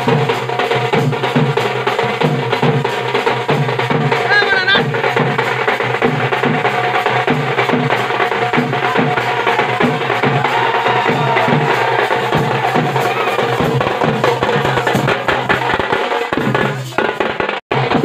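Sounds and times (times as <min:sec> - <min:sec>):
percussion-heavy dance music: 0:00.0 - 0:18.0.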